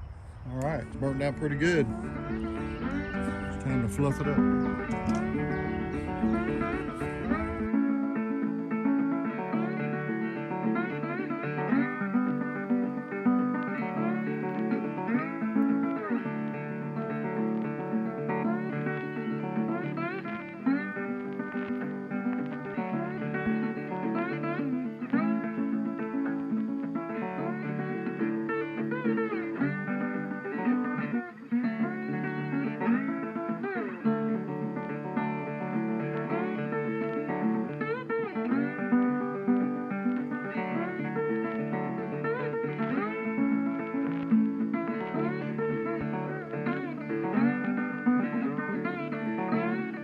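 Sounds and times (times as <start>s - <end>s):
acoustic guitar with sliding notes: 0.6s - 50.0s.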